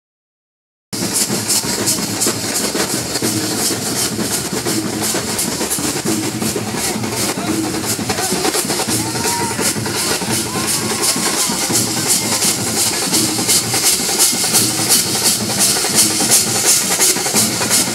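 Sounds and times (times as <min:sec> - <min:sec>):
drums and cymbals playing: 0:01.0 - 0:17.9.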